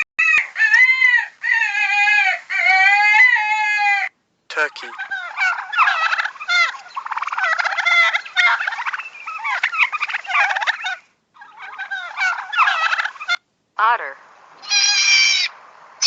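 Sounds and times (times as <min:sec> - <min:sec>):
turkey gobbling: 0:00.0 - 0:13.5, 0:14.6 - 0:15.7.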